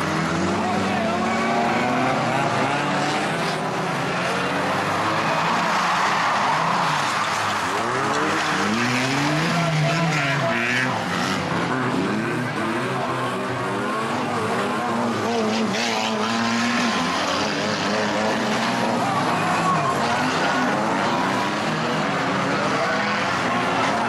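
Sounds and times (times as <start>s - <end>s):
racing car engines revving: 0.0s - 24.0s
tyres skidding: 0.0s - 24.0s.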